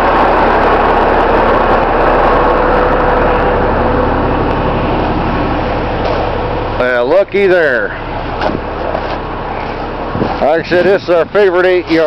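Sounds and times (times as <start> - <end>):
garbage truck engine idling: 0.0 - 12.0.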